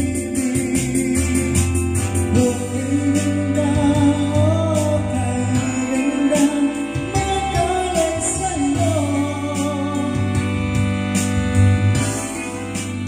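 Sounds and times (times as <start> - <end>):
person singing: 0.0 - 11.4
karaoke backing music: 0.0 - 13.0.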